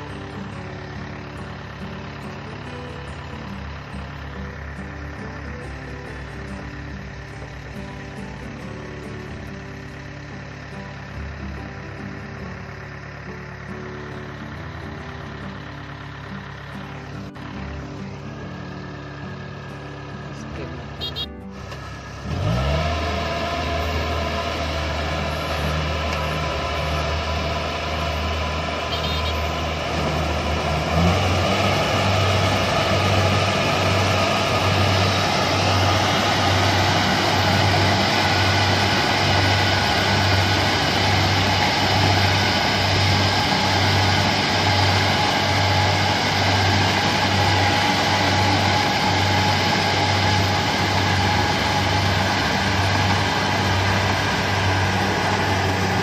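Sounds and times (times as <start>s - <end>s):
combine harvester drone: 0.0s - 56.0s
low machine pulse: 0.0s - 56.0s.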